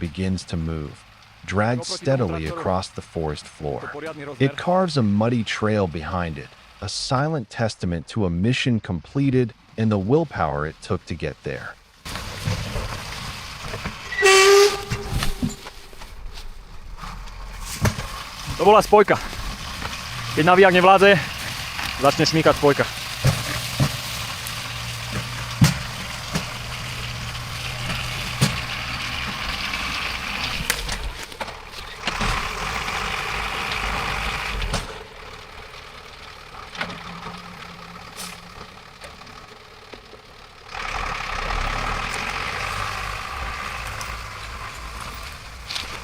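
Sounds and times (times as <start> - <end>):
tractor engine under load: 0.0 - 46.0.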